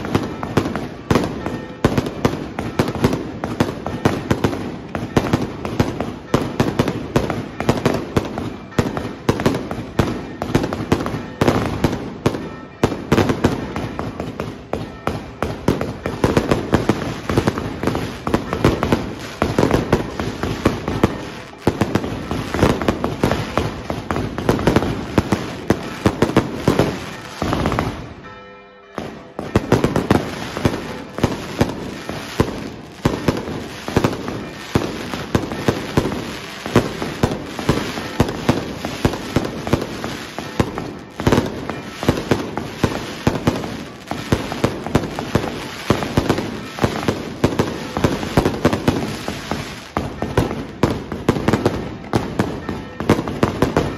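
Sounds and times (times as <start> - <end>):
fireworks cracks and bangs: 0.0 - 53.9.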